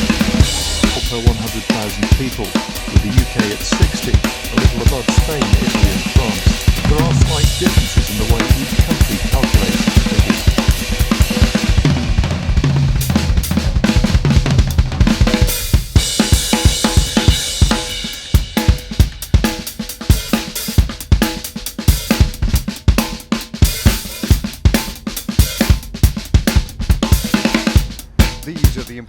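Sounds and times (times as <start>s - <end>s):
drum kit beat: 0.0s - 29.0s.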